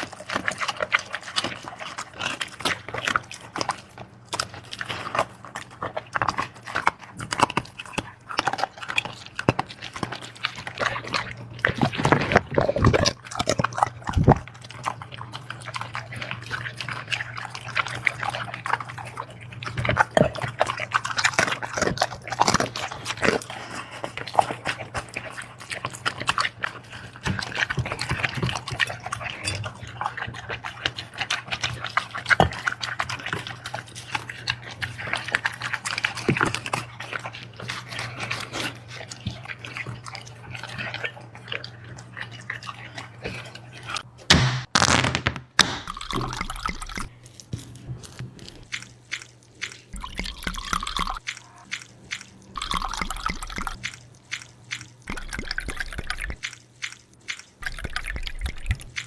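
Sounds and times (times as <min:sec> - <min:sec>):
dog chewing and lapping: 0:00.0 - 0:44.2, 0:45.8 - 0:59.0.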